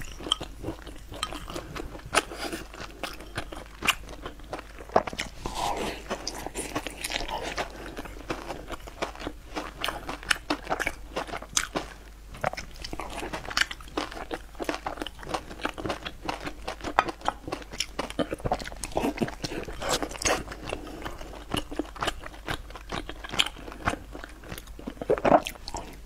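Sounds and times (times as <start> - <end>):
person chewing and biting: 0.0 - 26.0.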